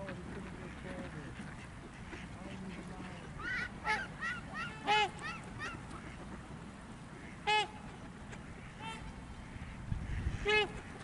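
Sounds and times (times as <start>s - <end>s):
waterfowl calling: 0.0s - 11.0s.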